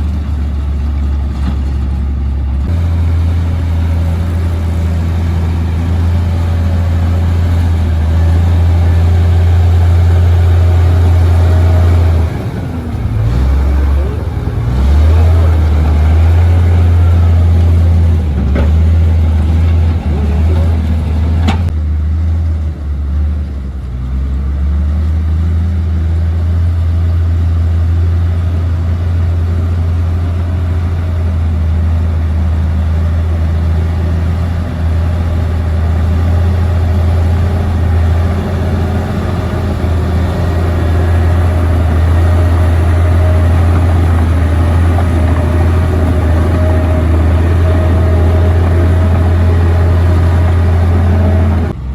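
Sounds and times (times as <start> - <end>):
bulldozer diesel engine droning: 0.0 - 51.9.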